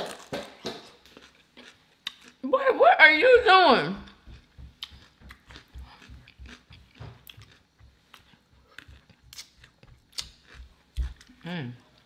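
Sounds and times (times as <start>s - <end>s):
person chewing food: 0.0s - 2.5s, 4.0s - 12.0s.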